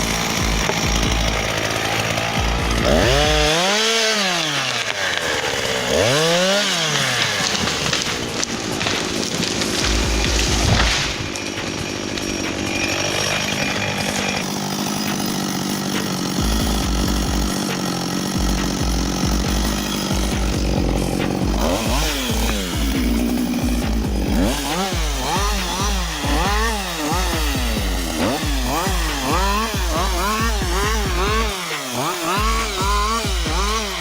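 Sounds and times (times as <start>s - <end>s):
chainsaw engine revving: 0.0s - 34.0s.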